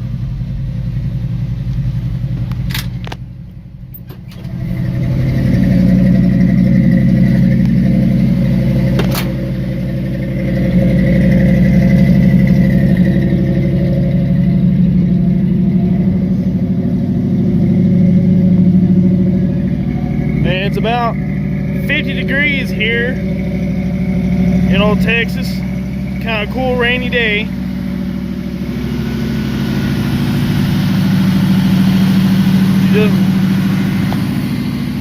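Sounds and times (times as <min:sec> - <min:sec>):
pickup engine running: 0:00.0 - 0:35.0.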